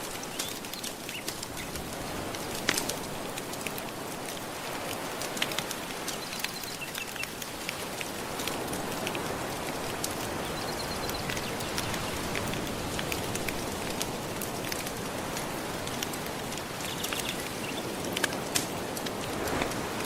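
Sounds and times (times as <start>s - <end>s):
wood fire crackling: 0.0s - 20.0s
surf lapping on shore: 1.0s - 20.0s.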